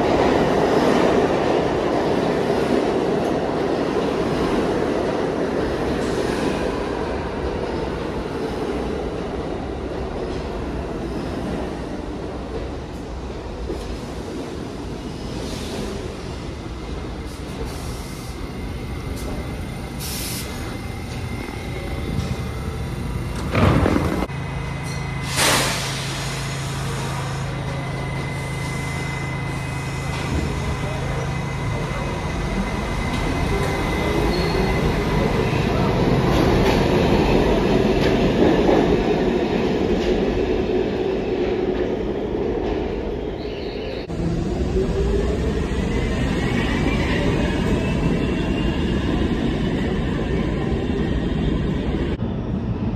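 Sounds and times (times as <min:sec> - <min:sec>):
subway train rumbling: 0:00.0 - 0:52.9.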